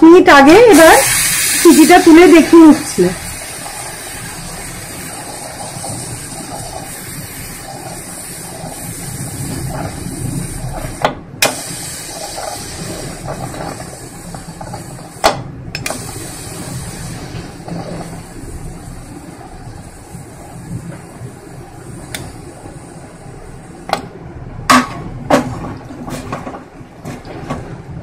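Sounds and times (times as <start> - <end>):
pressure cooker steam hissing: 0.4 - 26.4.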